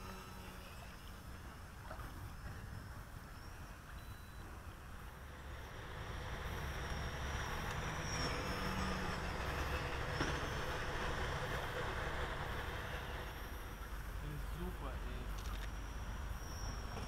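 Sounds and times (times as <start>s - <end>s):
model plane electric motor whine: 0.0s - 17.0s.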